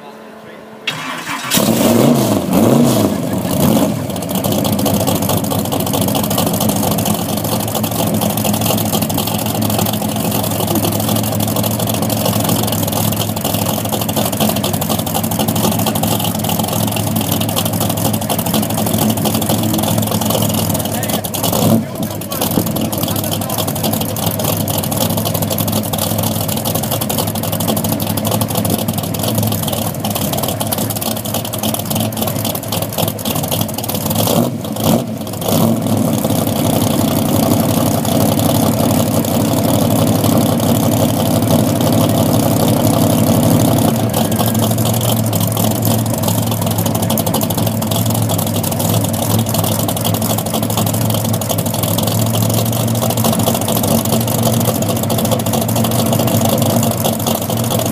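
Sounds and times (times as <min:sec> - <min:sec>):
car engine running: 0:00.9 - 0:57.9.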